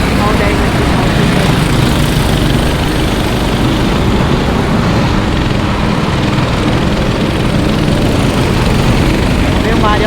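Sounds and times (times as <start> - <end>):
go-kart engines droning: 0.0 - 10.0.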